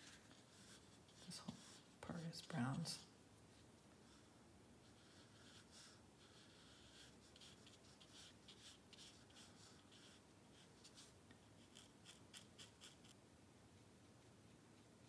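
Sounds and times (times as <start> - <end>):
paintbrush strokes on paper: 0.0 - 13.2.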